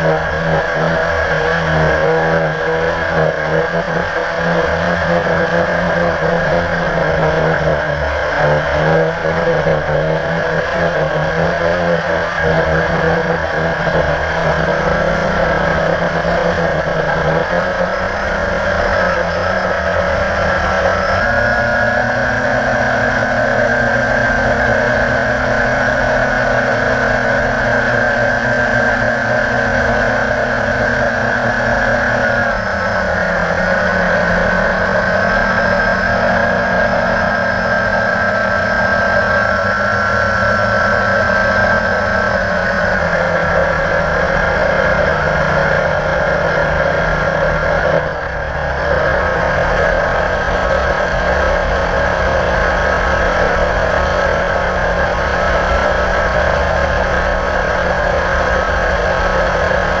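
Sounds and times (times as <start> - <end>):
quadcopter motors whining: 0.0 - 60.0.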